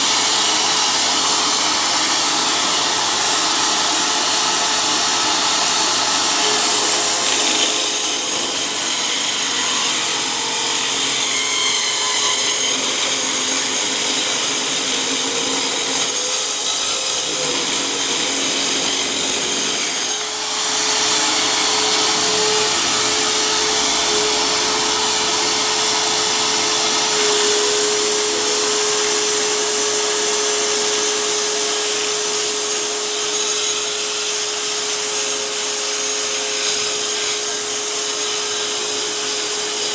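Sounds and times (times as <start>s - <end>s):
circular saw whining: 0.0s - 39.9s.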